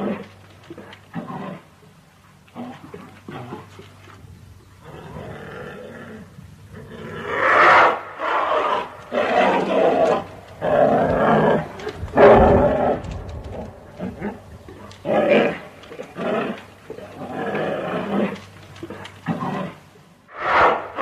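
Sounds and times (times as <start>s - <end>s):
bear growling and roaring: 0.0s - 1.9s, 2.5s - 4.1s, 4.8s - 21.0s.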